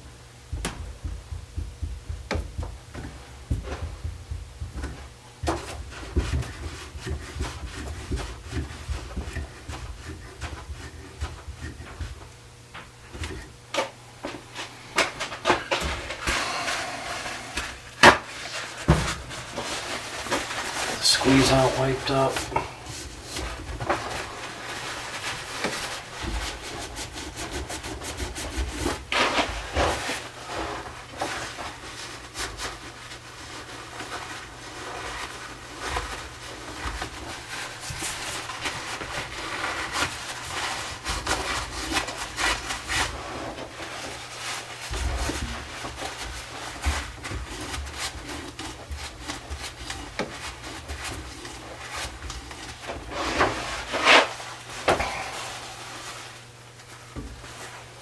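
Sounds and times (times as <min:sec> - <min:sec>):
scraping and rubbing on wood: 0:00.0 - 0:58.0.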